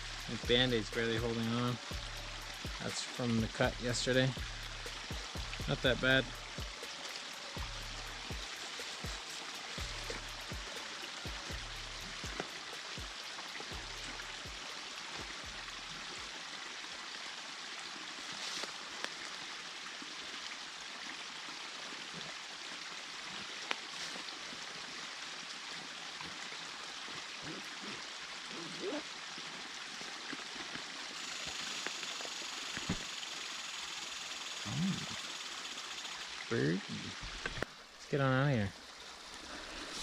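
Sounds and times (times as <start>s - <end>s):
creek water rushing: 0.0s - 40.0s.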